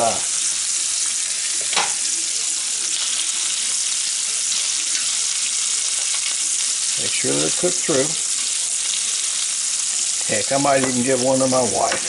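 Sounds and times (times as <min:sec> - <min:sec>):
shrimp sizzling in a frying pan: 0:00.0 - 0:12.0.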